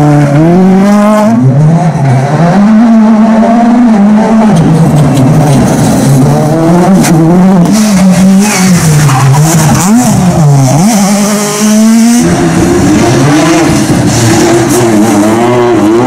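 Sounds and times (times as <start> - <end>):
rally car engines revving: 0.0 - 16.0.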